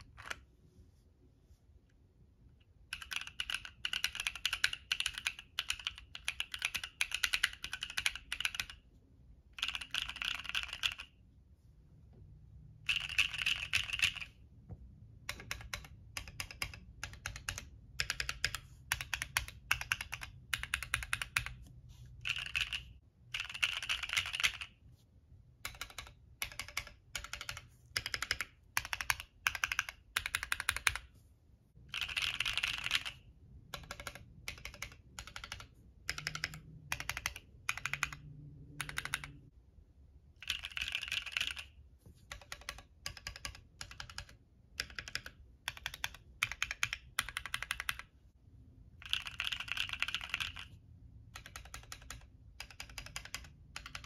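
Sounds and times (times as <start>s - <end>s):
mechanical keyboard typing: 2.8s - 8.8s, 9.5s - 11.2s, 12.8s - 14.4s, 15.0s - 24.8s, 25.6s - 31.1s, 31.8s - 39.5s, 40.4s - 48.2s, 49.0s - 54.0s.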